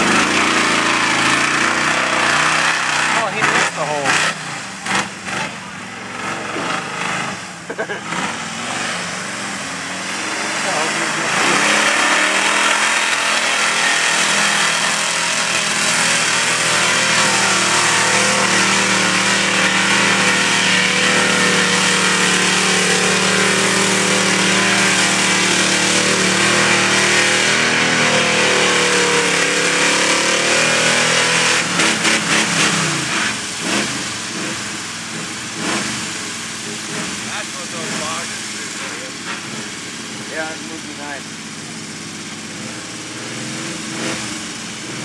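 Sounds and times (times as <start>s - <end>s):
truck engine at high revs: 0.0s - 45.0s.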